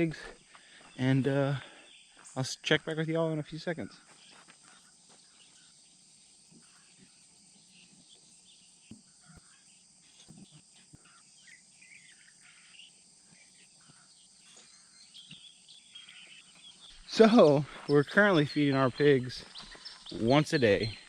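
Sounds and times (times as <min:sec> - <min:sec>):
bird chirps: 0:00.0 - 0:21.0
insects droning: 0:00.0 - 0:21.0.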